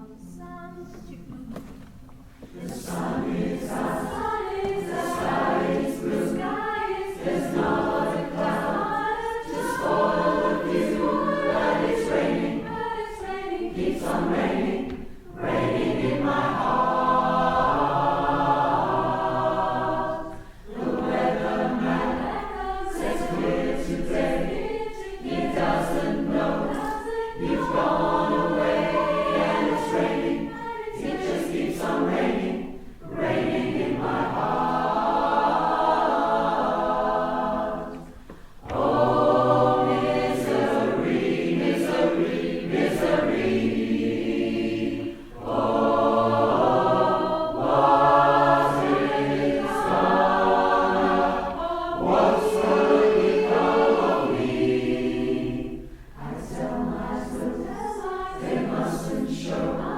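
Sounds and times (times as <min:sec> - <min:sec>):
choir singing in harmony: 0:02.2 - 0:59.9.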